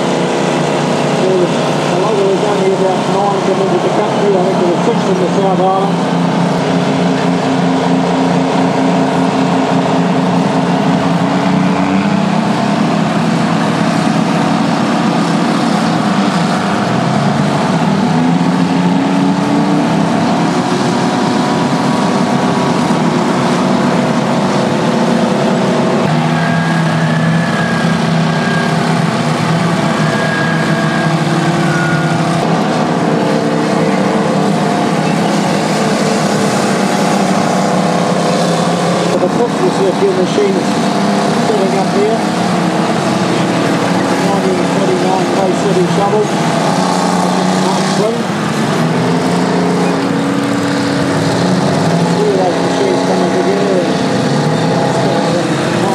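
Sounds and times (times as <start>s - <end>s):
bulldozer diesel engines running hard: 0.0s - 55.9s.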